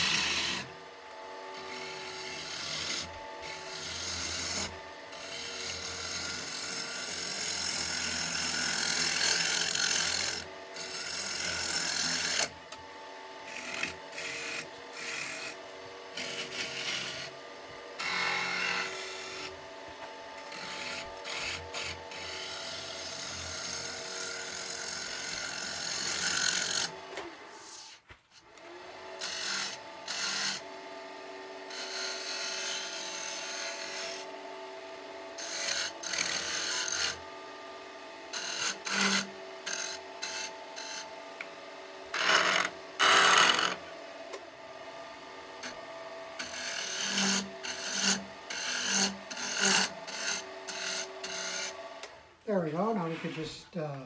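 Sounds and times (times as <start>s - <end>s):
turning tool scraping wood: 0.0s - 12.8s, 13.4s - 30.7s, 31.7s - 34.3s, 35.4s - 37.2s, 38.3s - 41.5s, 42.1s - 44.4s, 45.6s - 54.0s
wood lathe humming: 0.0s - 54.0s.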